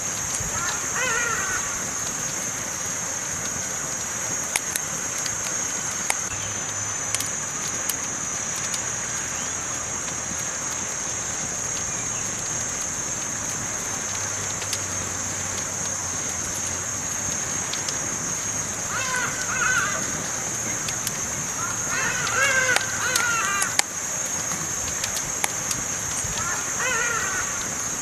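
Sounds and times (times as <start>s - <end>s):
campfire hissing and crackling: 0.0s - 28.0s.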